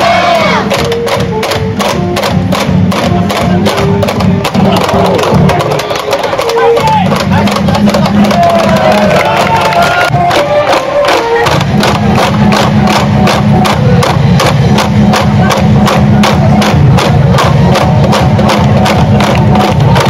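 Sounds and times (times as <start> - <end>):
brass and drum band playing: 0.0 - 20.0
fast steady drumbeat: 0.0 - 20.0.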